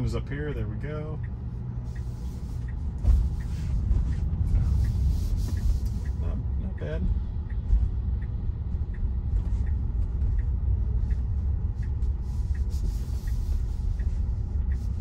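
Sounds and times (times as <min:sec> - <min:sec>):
car road rumble: 0:00.0 - 0:15.0
turn signal ticking: 0:00.0 - 0:15.0.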